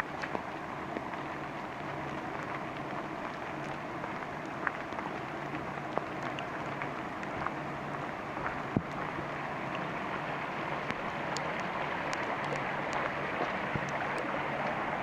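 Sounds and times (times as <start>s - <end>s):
rain falling in forest: 0.0s - 15.0s
sharp water drips: 0.0s - 15.0s.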